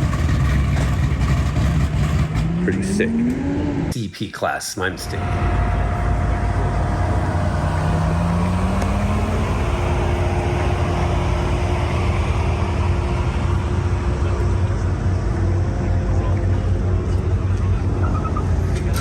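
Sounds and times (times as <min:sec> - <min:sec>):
engine revving: 0:00.0 - 0:04.0, 0:05.1 - 0:19.0
car engines rumbling: 0:00.0 - 0:19.0.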